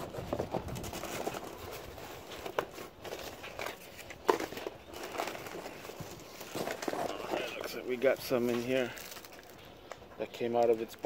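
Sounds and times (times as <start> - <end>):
hands rummaging in cardboard box: 0.0 - 9.6.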